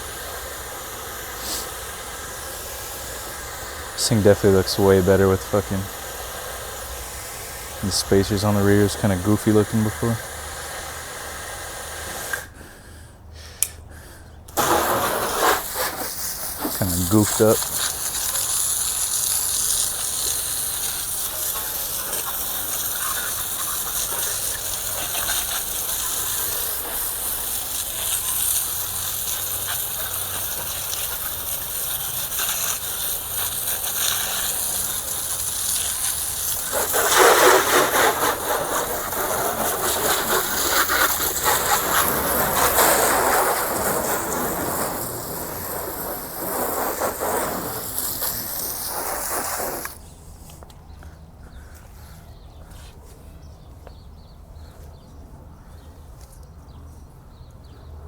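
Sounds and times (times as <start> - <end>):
water spraying onto a car: 0.0 - 12.6, 14.6 - 50.0.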